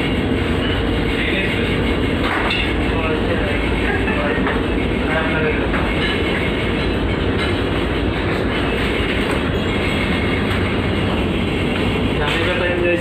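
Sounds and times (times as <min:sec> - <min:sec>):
ship machinery rumbling: 0:00.0 - 0:13.0.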